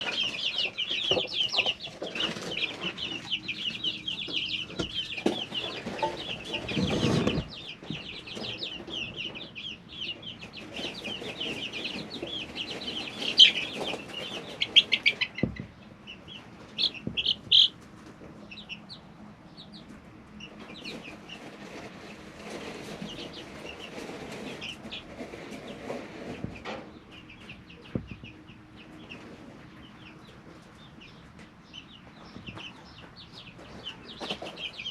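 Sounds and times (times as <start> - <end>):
chicks cheeping: 0.0 - 34.9.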